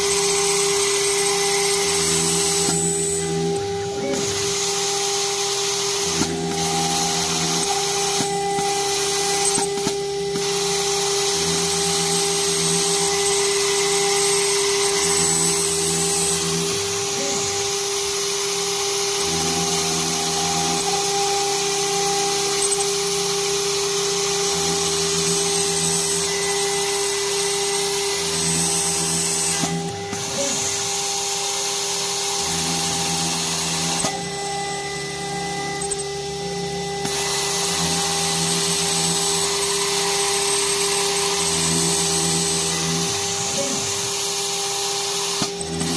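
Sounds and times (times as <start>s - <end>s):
router spindle whine: 0.0s - 45.9s.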